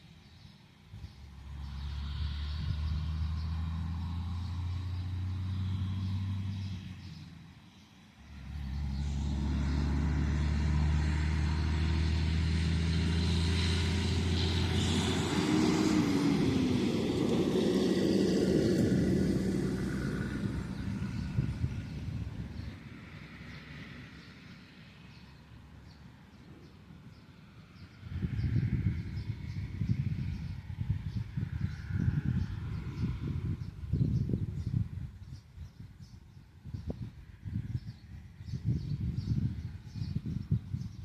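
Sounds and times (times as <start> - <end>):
heavy machinery engine hum: 0.9 - 35.2.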